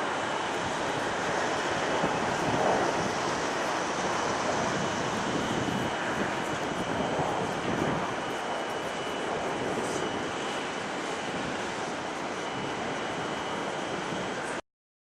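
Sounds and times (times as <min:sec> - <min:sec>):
jet engines running: 0:00.0 - 0:14.6.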